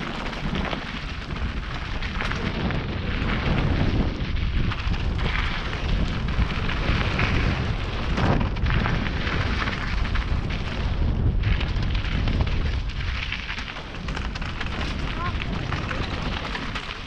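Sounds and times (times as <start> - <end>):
bike rattling clicks: 0.0 - 17.0
tyres crunching on gravel: 0.0 - 17.0
wind buffeting microphone: 0.0 - 17.0.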